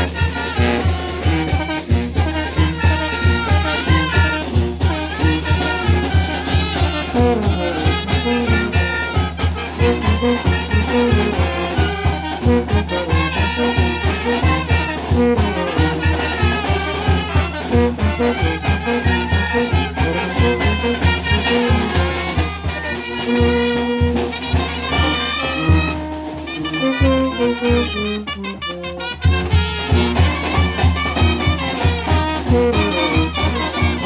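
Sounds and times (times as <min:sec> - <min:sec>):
band playing with brass melody: 0:00.0 - 0:34.0.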